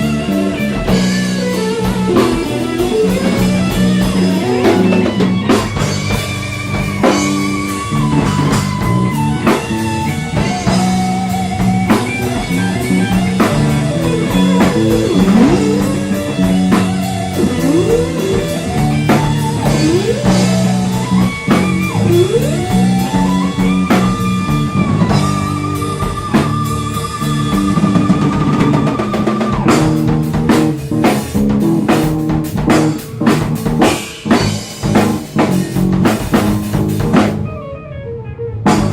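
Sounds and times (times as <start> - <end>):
bass: 0.0 - 37.9, 38.5 - 38.9
drums: 0.0 - 38.9
electric guitar lead line: 0.0 - 38.9.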